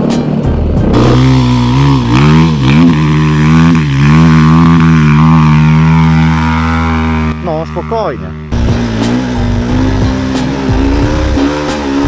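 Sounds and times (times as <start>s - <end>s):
dirt bike engine revving: 0.7s - 12.0s.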